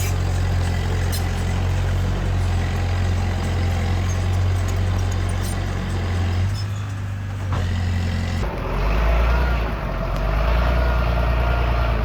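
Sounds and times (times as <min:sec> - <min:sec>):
deep diesel engine drone: 0:00.0 - 0:12.0.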